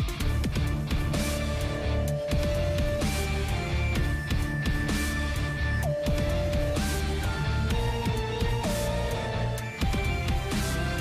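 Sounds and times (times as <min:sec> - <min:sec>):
guitar music with a beat: 0:00.0 - 0:11.0.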